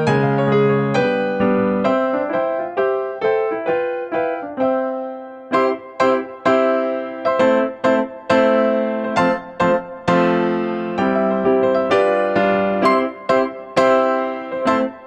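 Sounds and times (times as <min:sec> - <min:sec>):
light instrumental keyboard music: 0:00.0 - 0:15.0.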